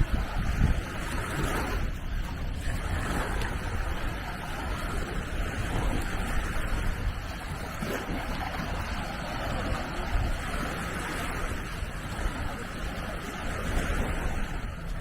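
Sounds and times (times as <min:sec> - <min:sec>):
waves washing on shore: 0:00.0 - 0:15.0
wind rumbling on microphone: 0:00.0 - 0:15.0.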